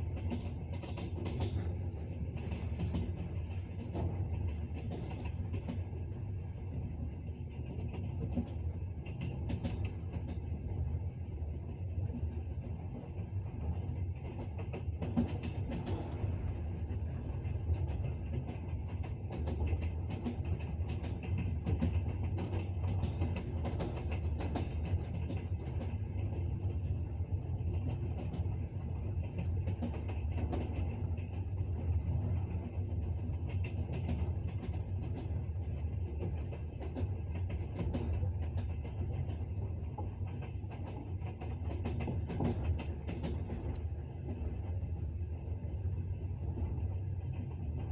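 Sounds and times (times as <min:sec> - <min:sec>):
train wheels clattering: 0:00.0 - 0:10.9, 0:12.2 - 0:47.9.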